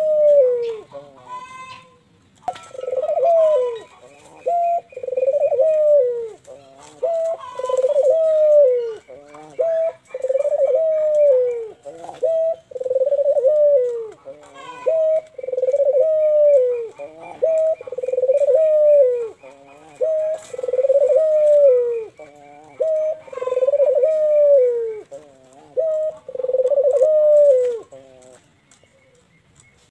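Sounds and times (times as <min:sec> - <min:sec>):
dove cooing: 0:00.0 - 0:29.2.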